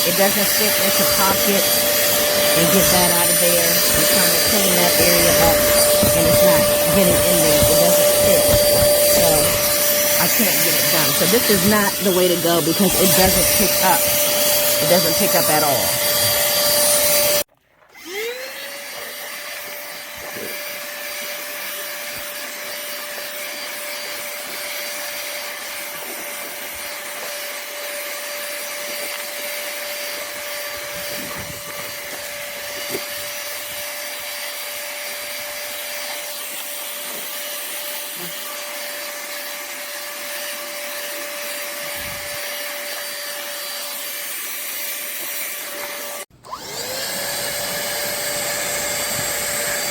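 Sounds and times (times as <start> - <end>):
handheld vacuum cleaner whine: 0.0 - 49.9.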